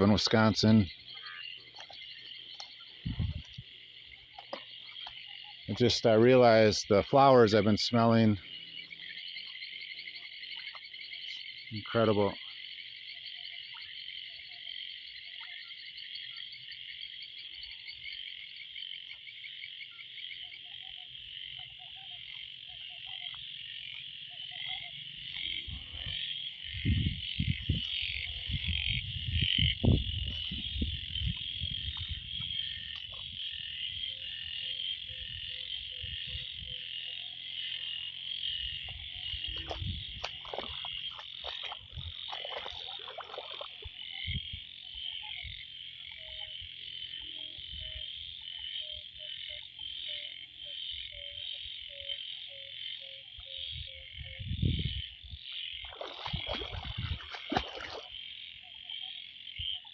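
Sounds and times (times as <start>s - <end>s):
frog croaking: 0.0s - 59.9s
frogs trilling: 0.0s - 59.9s.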